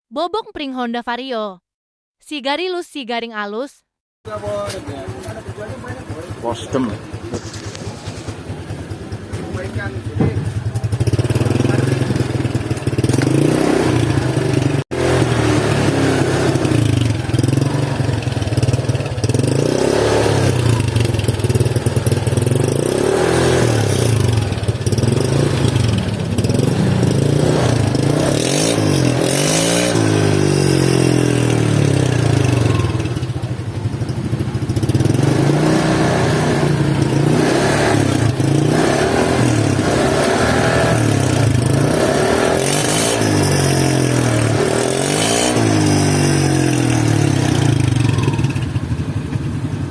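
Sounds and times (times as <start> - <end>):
scooter engine revving: 4.3 - 49.9.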